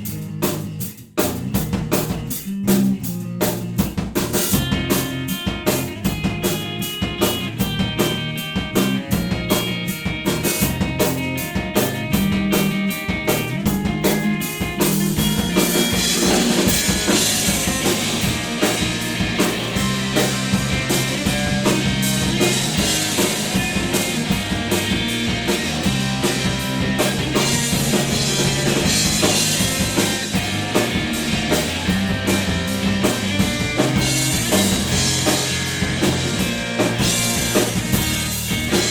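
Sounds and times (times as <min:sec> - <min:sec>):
drum kit hits: 0:00.0 - 0:38.9
electric bass line: 0:00.0 - 0:38.9
electric guitar: 0:00.0 - 0:38.9.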